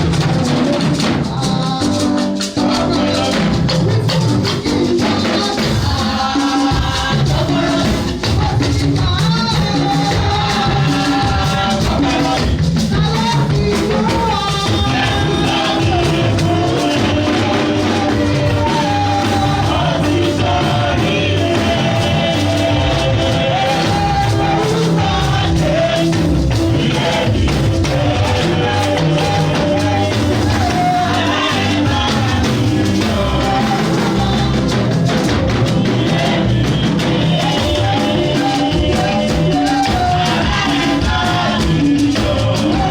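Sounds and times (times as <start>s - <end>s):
band with drums: 0.0s - 42.9s
person singing: 0.0s - 42.9s.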